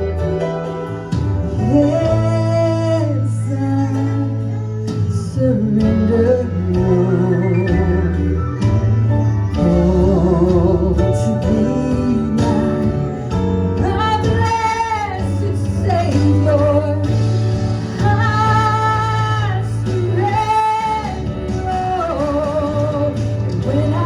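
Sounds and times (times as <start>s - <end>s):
instrumental accompaniment: 0.0s - 24.0s
woman singing gospel: 1.4s - 8.9s, 9.5s - 24.0s.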